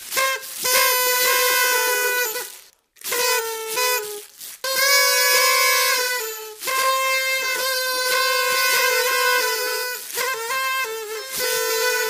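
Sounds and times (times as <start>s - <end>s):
party horns tooting: 0.0s - 12.0s.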